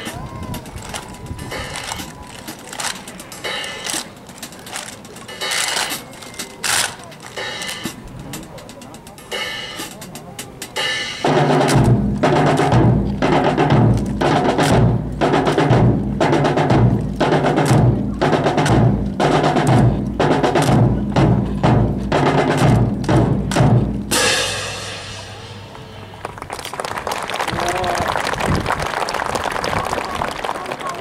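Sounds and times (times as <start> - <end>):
percussion-led drill music: 0.0 - 25.4.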